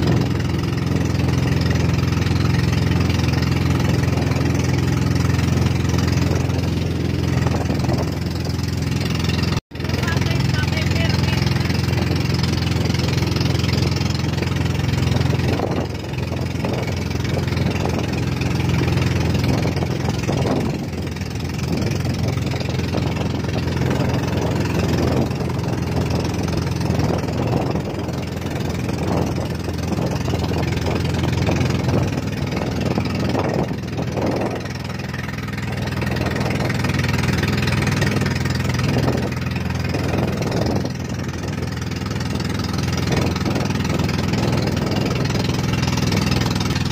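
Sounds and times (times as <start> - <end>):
boat engine humming: 0.0 - 46.9
rush of wind and water: 0.0 - 46.9.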